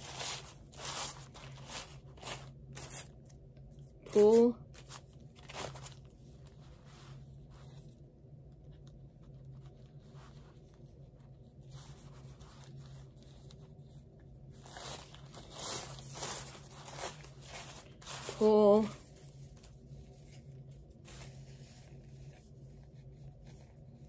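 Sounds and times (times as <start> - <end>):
plastic sheets rustling and crinkling: 0.0 - 8.0, 9.2 - 24.0.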